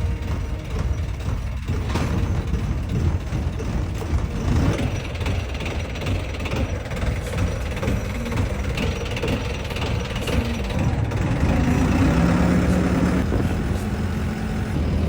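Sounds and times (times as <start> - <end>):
engine rough low rumble: 0.0 - 15.0.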